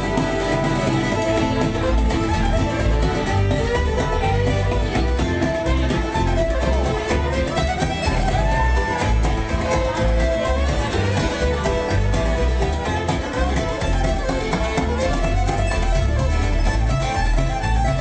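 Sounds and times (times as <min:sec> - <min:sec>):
fiddle playing: 0:00.0 - 0:18.0
guitar backing: 0:00.0 - 0:18.0
plucked mandolin: 0:00.0 - 0:18.0.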